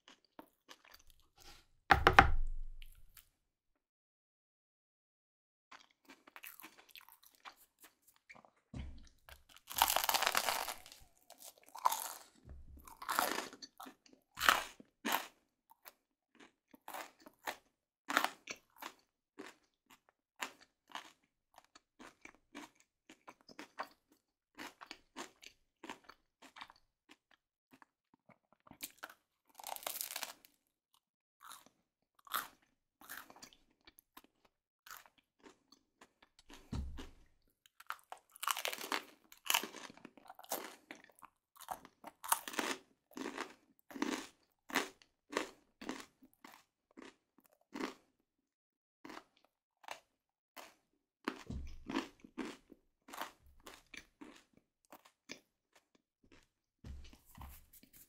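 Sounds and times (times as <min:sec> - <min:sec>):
crunchy bread chewing: 0:00.0 - 0:01.7, 0:05.7 - 0:30.7, 0:31.4 - 0:48.2, 0:49.0 - 0:58.0.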